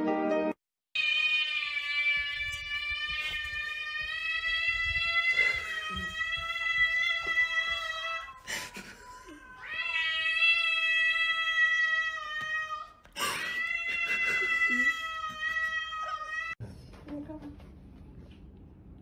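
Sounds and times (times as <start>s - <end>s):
cats yowling: 1.0s - 16.6s.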